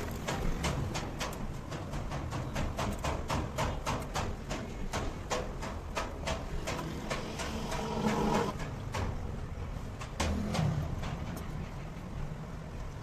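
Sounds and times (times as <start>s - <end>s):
irregular clicks and light knocks: 0.0s - 11.6s.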